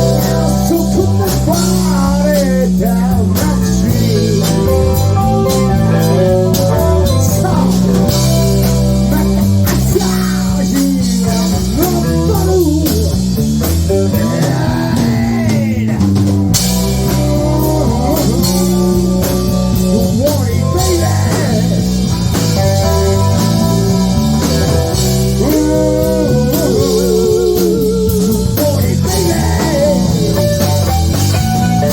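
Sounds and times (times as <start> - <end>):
bass guitar: 0.0 - 31.9
drum kit: 0.0 - 31.9
lead guitar with bending notes: 0.0 - 31.9.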